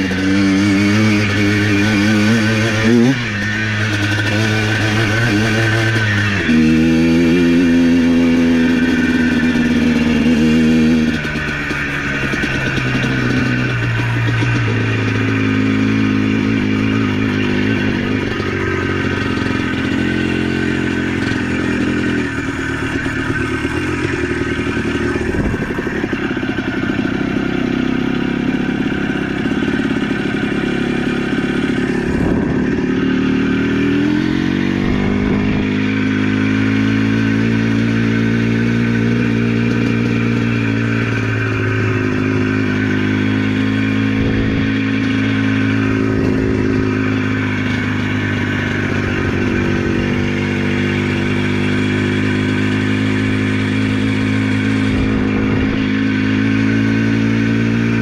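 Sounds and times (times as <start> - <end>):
atv engine running: 0.0 - 58.0
clatter over rough ground: 0.0 - 58.0.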